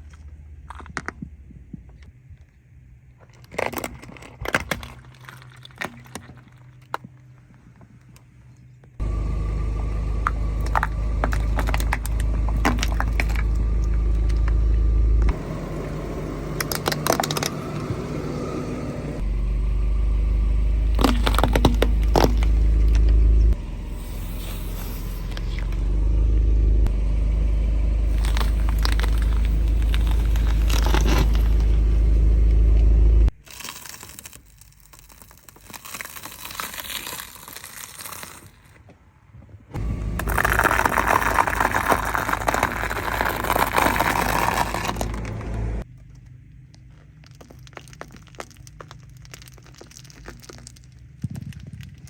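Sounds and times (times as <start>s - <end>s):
car engine and tyre rumble: 0.0s - 52.0s
objects crunching under wheels: 0.0s - 52.0s.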